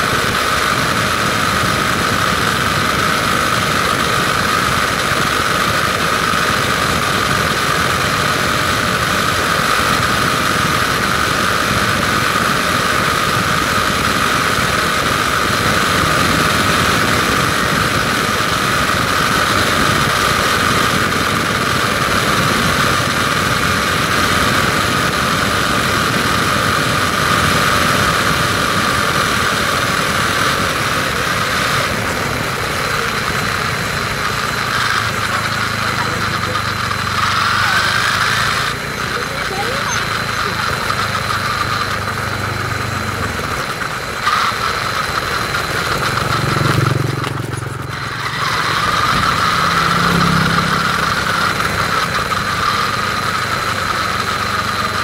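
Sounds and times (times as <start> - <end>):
toy car electric motor whine: 0.0 - 55.0
tyre and road noise: 0.0 - 55.0.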